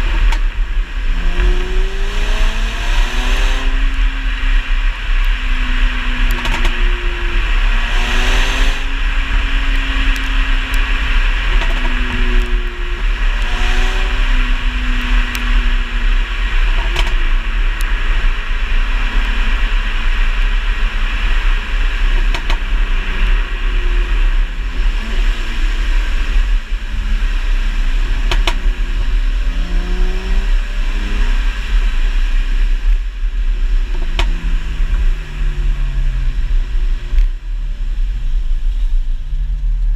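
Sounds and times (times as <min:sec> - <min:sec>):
exhaust pops: 0:00.0 - 0:02.4, 0:03.2 - 0:39.9
car engine and exhaust revving: 0:00.0 - 0:39.9
road rumble: 0:00.0 - 0:39.9.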